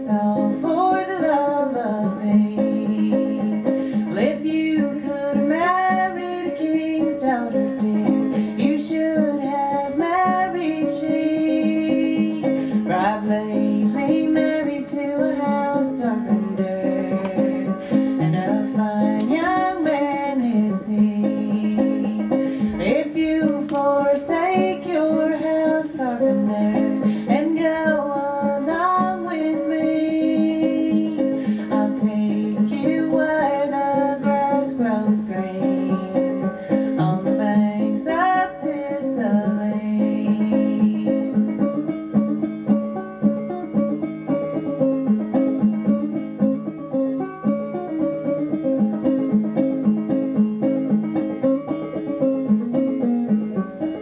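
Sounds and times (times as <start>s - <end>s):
banjo melody: 0.0s - 54.0s
guitar accompaniment: 0.0s - 54.0s.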